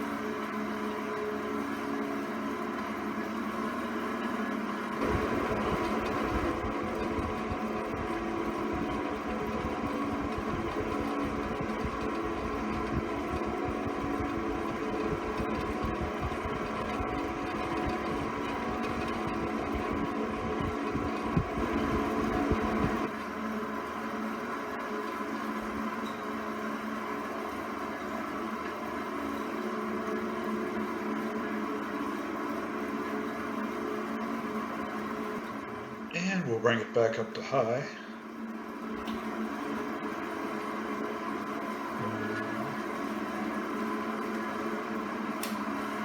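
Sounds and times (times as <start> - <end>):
box fan motor droning: 0.0 - 46.0.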